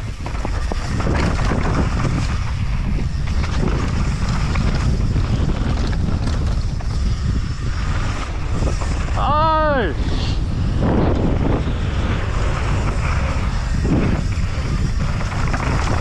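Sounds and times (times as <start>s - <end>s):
bike clicks and rattles: 0.0s - 16.0s
bike rolling over loose dirt: 0.0s - 16.0s
wind rushing over microphone: 0.0s - 16.0s.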